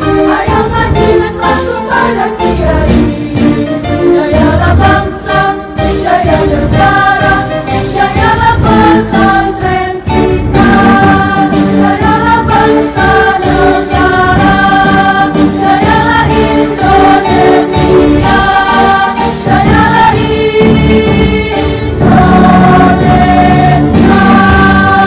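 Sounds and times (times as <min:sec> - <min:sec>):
choir singing: 0:00.0 - 0:25.0
instrumental backing with beat: 0:00.0 - 0:25.0.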